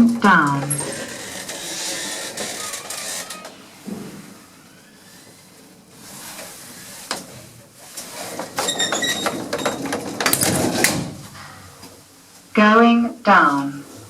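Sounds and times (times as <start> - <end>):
lift clunks: 0.0 - 12.0
lift mechanical running noise: 0.0 - 13.0
metallic rattle and clatter: 0.1 - 5.4, 6.0 - 12.0.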